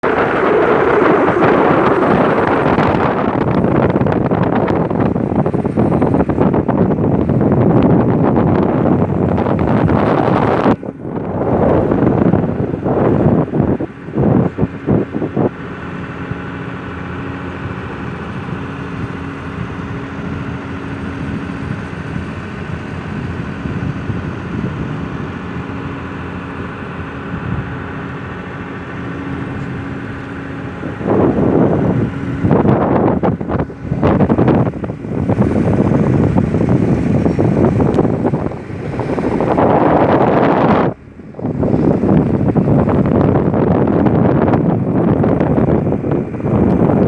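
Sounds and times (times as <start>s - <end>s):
boat engine running: 0.0s - 47.0s
wind buffeting microphone: 0.0s - 47.0s.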